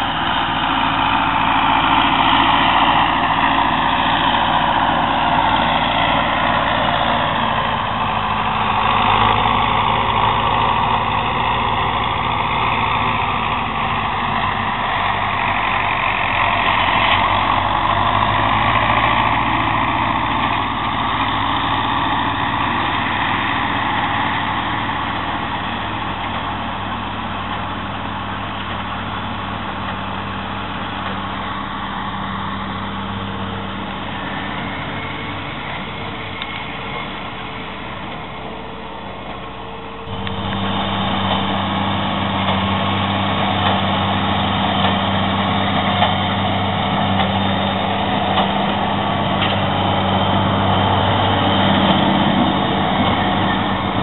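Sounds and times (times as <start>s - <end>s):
distant tractor engine: 0.0s - 54.0s
tractor engine under load: 0.0s - 54.0s.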